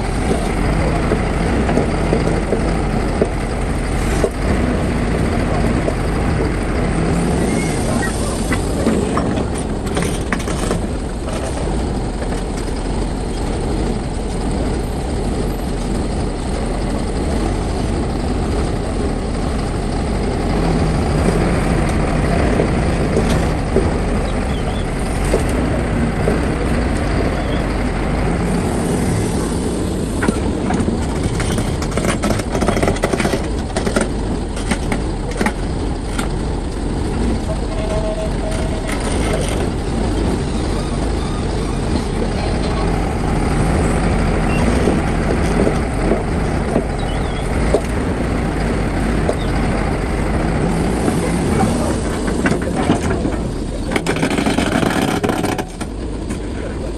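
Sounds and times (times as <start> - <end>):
knocks and clatters: 0.0 - 28.6, 30.2 - 56.8
heavy diesel machinery running: 0.0 - 56.9.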